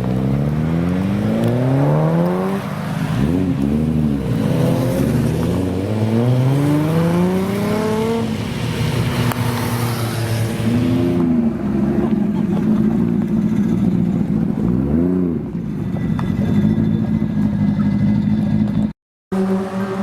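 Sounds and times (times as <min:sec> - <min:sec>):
car engine revving: 0:00.0 - 0:15.6, 0:16.4 - 0:20.0.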